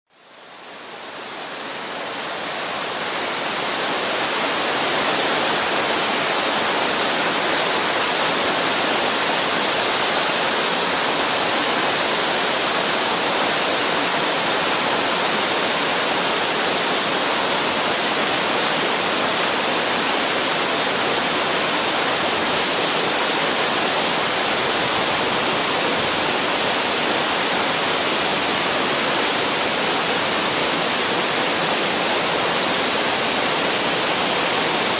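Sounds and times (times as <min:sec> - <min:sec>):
waterfall crashing: 0:00.1 - 0:34.9.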